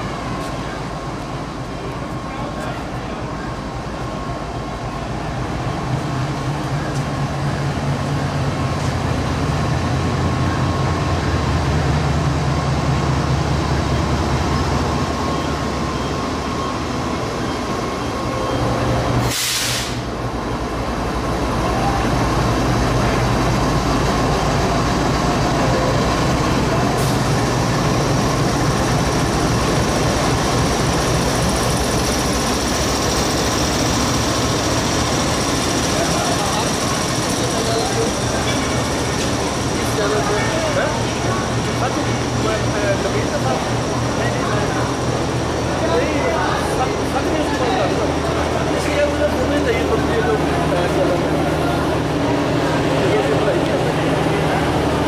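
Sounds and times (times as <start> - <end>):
locomotive engine droning: 0.0 - 55.0.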